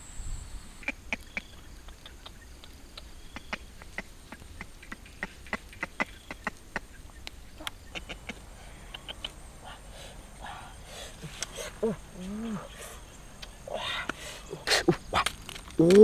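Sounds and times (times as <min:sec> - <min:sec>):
campfire crackling: 0:00.9 - 0:16.0.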